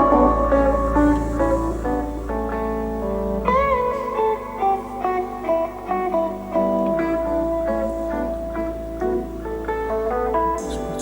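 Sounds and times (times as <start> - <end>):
bluesy guitar through speakers: 0.0 - 11.0.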